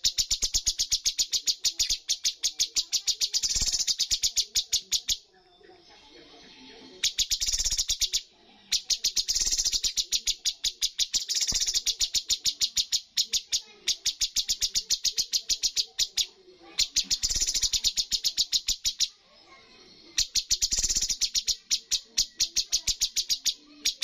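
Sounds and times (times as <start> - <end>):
songbird singing rapid sharp notes: 0.0 - 24.0.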